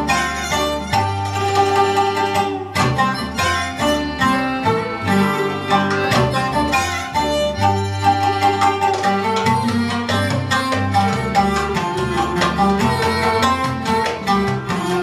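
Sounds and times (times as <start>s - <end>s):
double bass notes: 0.0s - 15.0s
hand drum rhythm: 0.0s - 15.0s
violin melody: 0.0s - 15.0s.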